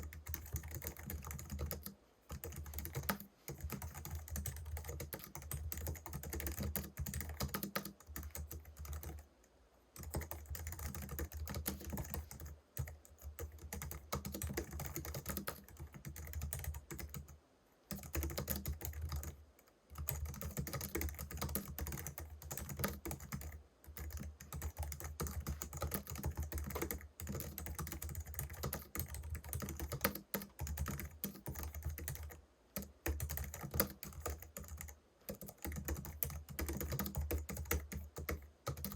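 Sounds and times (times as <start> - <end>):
keyboard keys clicking: 0.0 - 9.2, 10.0 - 17.3, 17.9 - 38.9.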